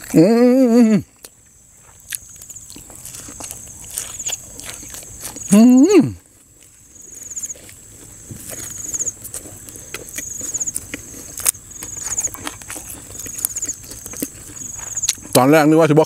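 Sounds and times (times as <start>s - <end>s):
high insect whine: 0.0s - 15.3s.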